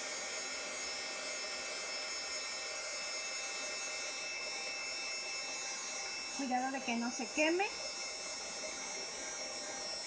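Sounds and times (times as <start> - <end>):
heat tool blower whirring: 0.0 - 10.0.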